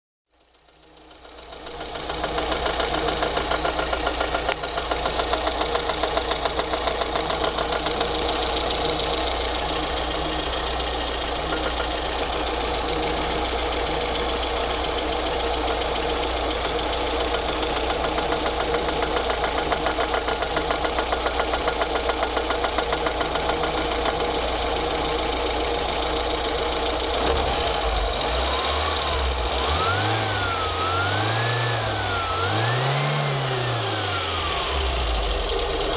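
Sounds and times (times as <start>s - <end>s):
car engine idling and revving: 0.3s - 35.9s.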